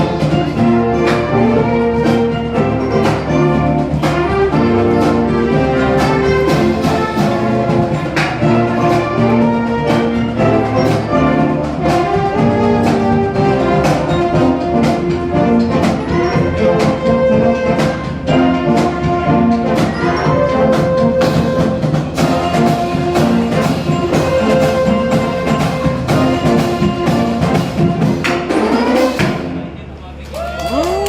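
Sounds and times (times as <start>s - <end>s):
brass band playing: 0.0s - 29.9s
percussion strikes: 0.0s - 30.2s.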